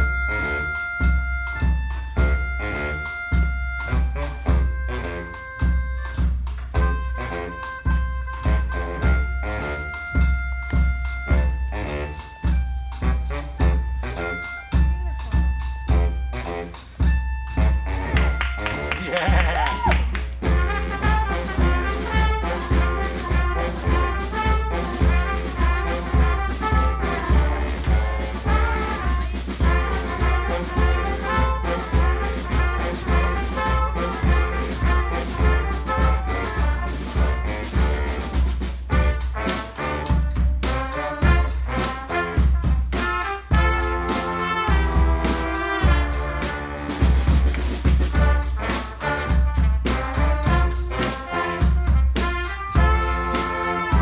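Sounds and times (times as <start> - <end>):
bass drum beat: 0.0 - 54.0
brass band playing: 0.0 - 54.0.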